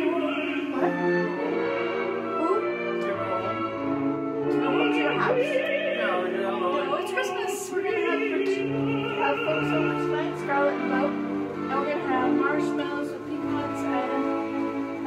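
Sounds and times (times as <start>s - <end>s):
opera singer with vibrato: 0.0s - 15.0s
orchestral accompaniment: 0.0s - 15.0s.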